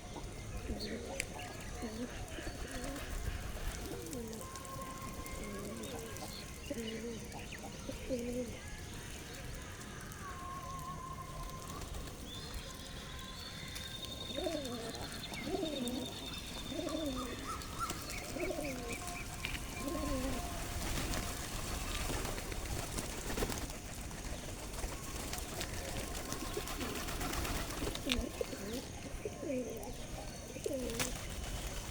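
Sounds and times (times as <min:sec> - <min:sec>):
pigeon cooing: 0:00.1 - 0:08.6, 0:14.1 - 0:31.9.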